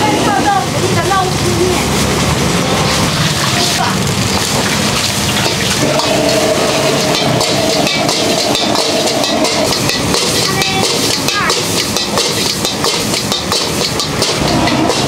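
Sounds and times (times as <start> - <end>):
rice sizzling in a wok: 0.0 - 15.0
metal ladle scraping a wok: 2.6 - 15.0.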